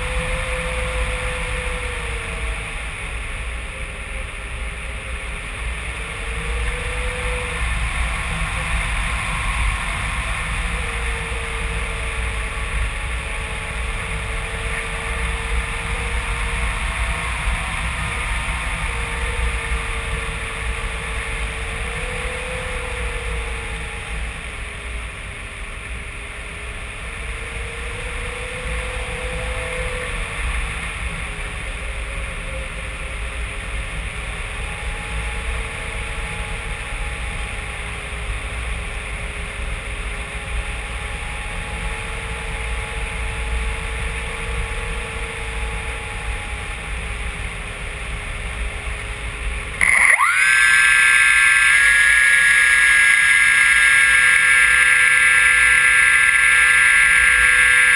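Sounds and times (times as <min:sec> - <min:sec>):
thin wavering whine: 0:00.0 - 0:57.9.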